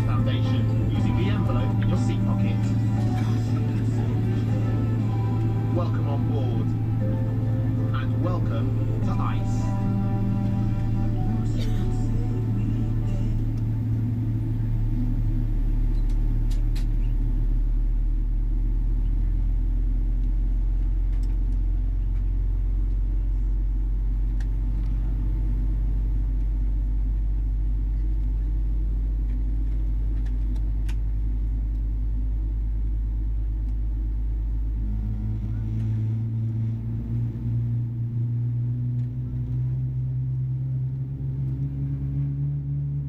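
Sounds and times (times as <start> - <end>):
aircraft cabin engine rumble: 0.0 - 43.0.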